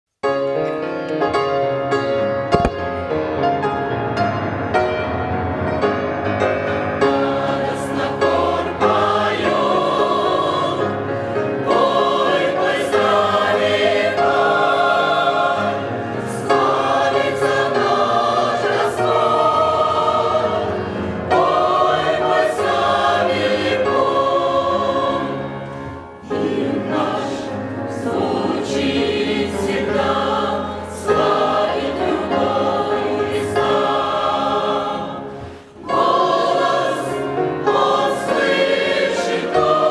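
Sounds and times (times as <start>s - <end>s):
church choir singing a hymn: 3.8s - 39.9s.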